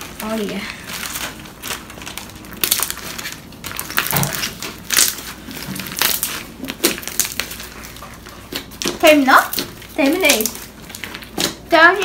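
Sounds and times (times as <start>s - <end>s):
slime crunching and crackling: 0.0s - 12.0s.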